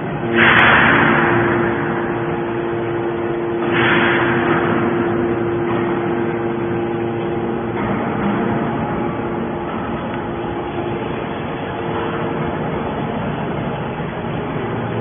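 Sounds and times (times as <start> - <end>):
hydraulic power unit hum: 0.0 - 15.0.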